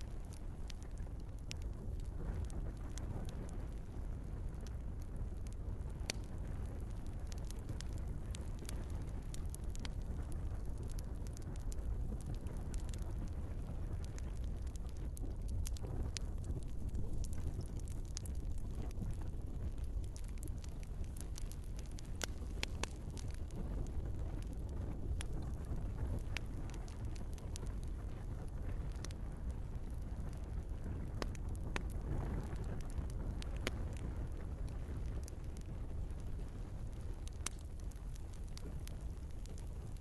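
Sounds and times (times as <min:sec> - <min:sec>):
log fire crackling: 0:00.0 - 0:40.0.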